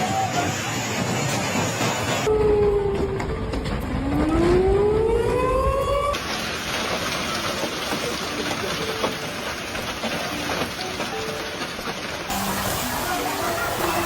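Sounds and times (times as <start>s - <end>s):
rushing storm noise: 0.0s - 14.0s.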